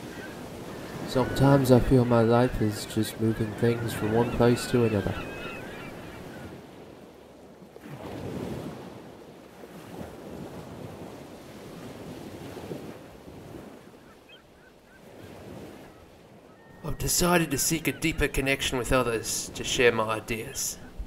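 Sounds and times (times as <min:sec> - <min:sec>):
ocean waves washing in: 0:00.0 - 0:13.9, 0:15.1 - 0:21.0.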